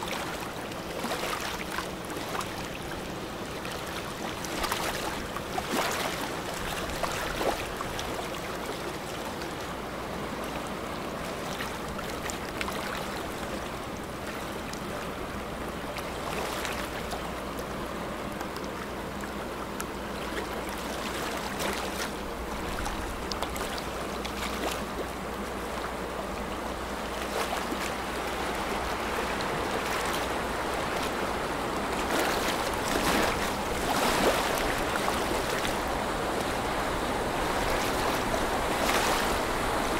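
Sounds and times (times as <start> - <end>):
bow wave splashing against hull: 0.0 - 39.9
steady low hum: 0.0 - 39.9.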